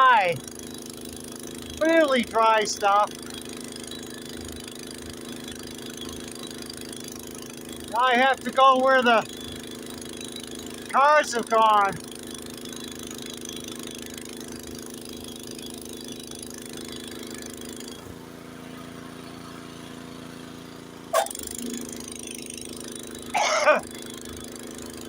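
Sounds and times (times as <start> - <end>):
snowblower engine running: 0.0 - 25.0.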